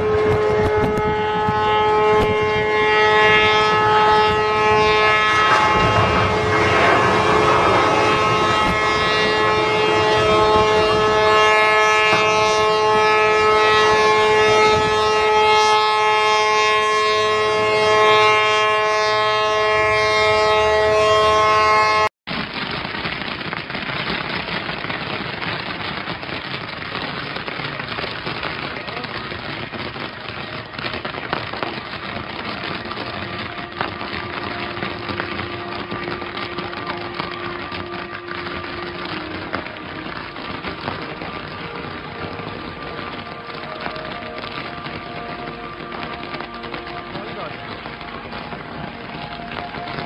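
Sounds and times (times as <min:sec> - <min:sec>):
steady rushing noise: 0:00.0 - 0:15.4, 0:24.5 - 0:50.0
ship horns blasting: 0:00.0 - 0:22.1, 0:32.1 - 0:50.0.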